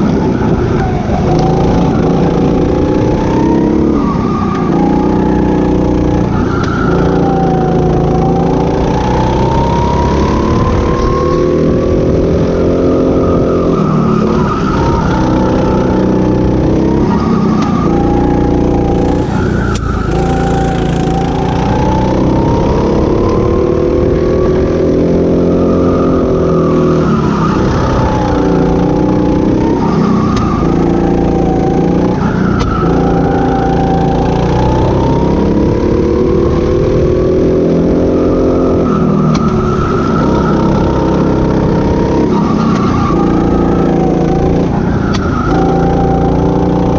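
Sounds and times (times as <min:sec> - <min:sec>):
go-kart engine revving: 0:00.0 - 0:46.9.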